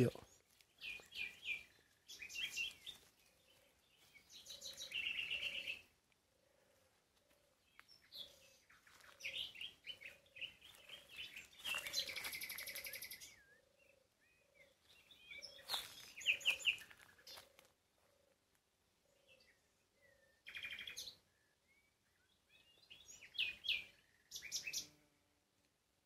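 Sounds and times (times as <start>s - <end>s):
birds chirping and trilling: 0.0s - 25.2s.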